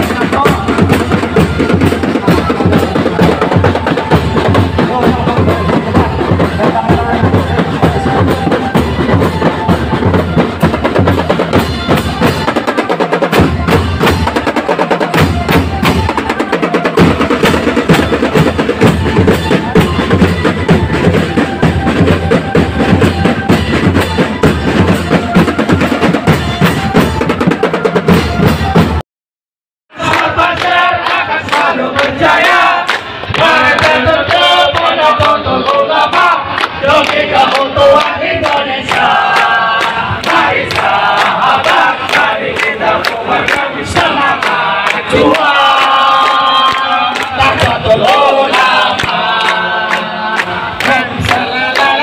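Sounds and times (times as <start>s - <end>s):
drum rolls: 0.0s - 29.0s, 30.0s - 52.0s
marching drum band: 0.0s - 29.0s, 29.9s - 52.0s.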